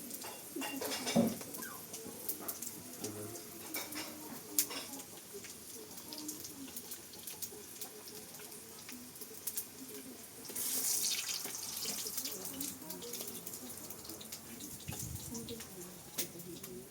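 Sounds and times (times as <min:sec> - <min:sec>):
water running from a tap: 0:00.0 - 0:16.7.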